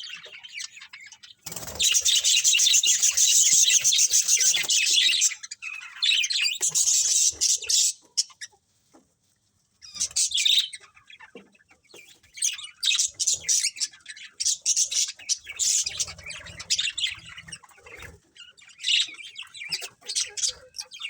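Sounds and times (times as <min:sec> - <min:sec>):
budgerigars chirping and chattering: 0:00.0 - 0:09.0, 0:09.8 - 0:21.0.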